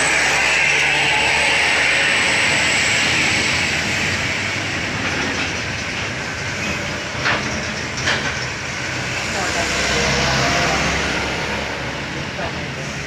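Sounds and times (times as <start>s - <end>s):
heavy truck passing: 0.0s - 13.0s.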